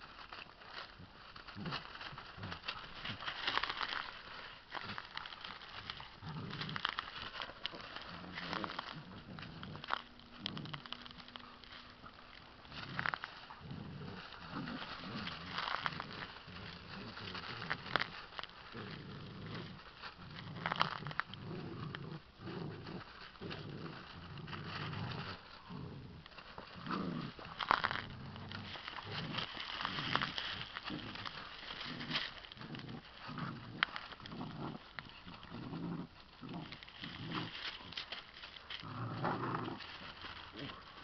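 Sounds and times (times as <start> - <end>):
dry palm fronds crackling: 0.0 - 41.0
puppies growling: 0.0 - 41.0.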